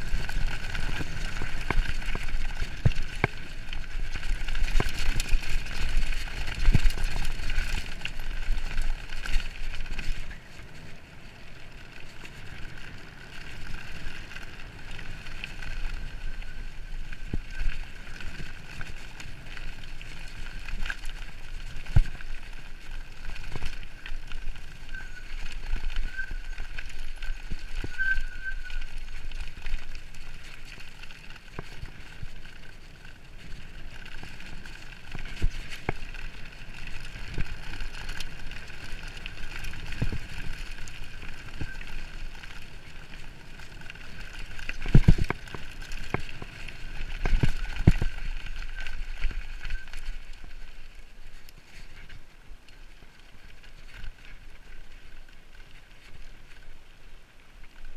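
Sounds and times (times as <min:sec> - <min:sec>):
bike jolting over bumps: 0:00.0 - 0:52.3
bike rattling: 0:00.0 - 0:57.9
bike tyres rolling over gravel: 0:00.0 - 0:57.9.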